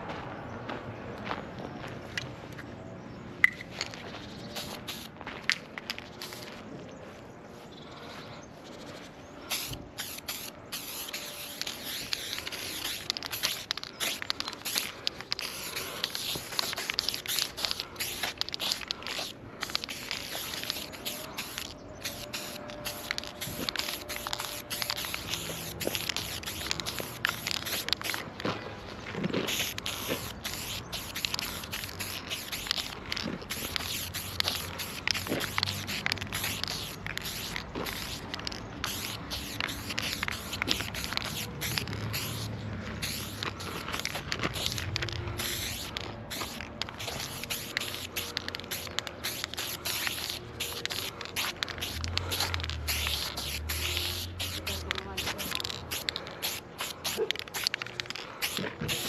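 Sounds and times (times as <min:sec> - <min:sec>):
spray paint can hissing: 0:03.4 - 0:06.6, 0:08.8 - 0:28.5, 0:29.4 - 0:59.0.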